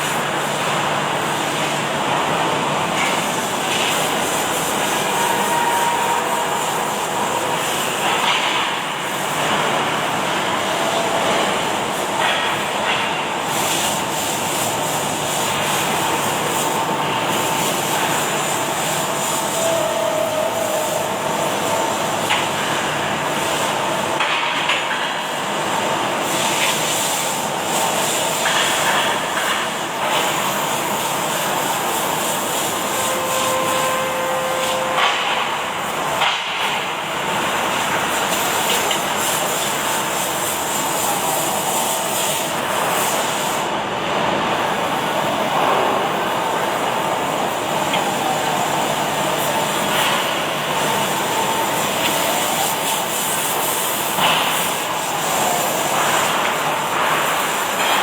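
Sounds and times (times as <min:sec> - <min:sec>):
welding machine hissing: 0:00.0 - 0:58.0.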